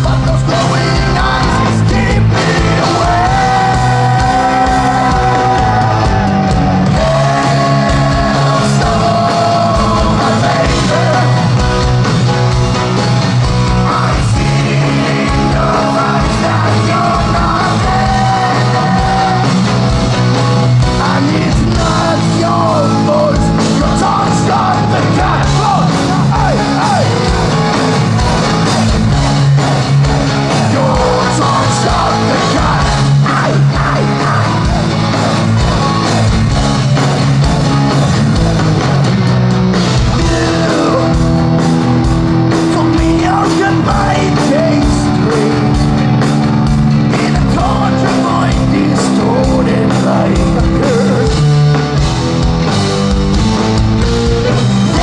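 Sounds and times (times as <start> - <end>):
person singing lead vocal: 0.0 - 12.2, 13.5 - 27.4, 29.6 - 35.3, 40.0 - 51.6, 54.4 - 55.0
bass: 0.0 - 55.0
distorted electric guitars: 0.0 - 55.0
drums: 0.0 - 55.0.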